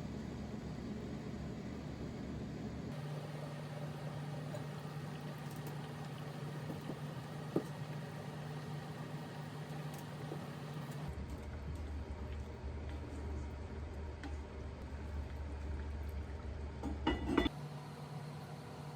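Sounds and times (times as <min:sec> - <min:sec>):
kitchen appliance humming: 0:00.0 - 0:18.9.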